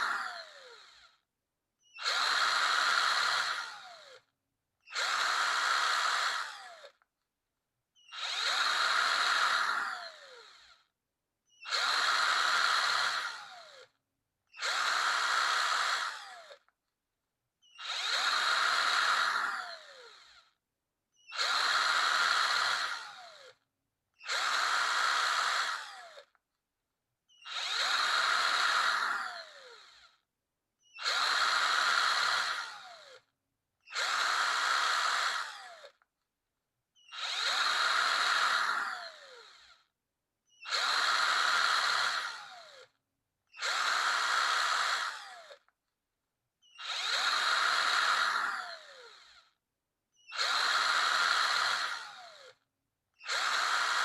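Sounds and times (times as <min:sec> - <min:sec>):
power drill whirring: 0:00.0 - 0:07.1, 0:08.0 - 0:16.8, 0:17.6 - 0:26.4, 0:27.3 - 0:36.1, 0:36.9 - 0:45.8, 0:46.6 - 0:54.0.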